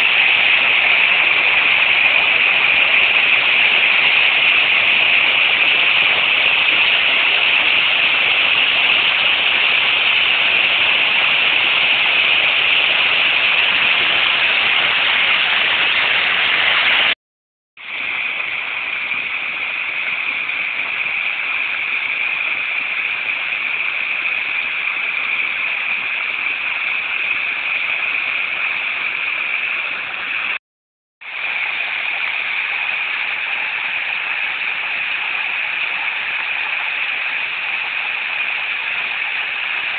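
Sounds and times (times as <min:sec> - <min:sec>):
stream rushing over rocks: 0:00.0 - 0:17.2, 0:17.8 - 0:30.6, 0:31.2 - 0:39.9.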